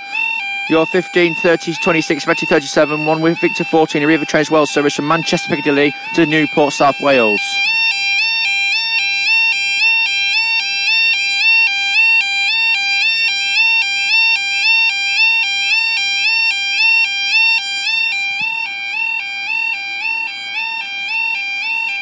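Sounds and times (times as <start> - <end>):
two-tone level crossing alarm: 0.0 - 22.0.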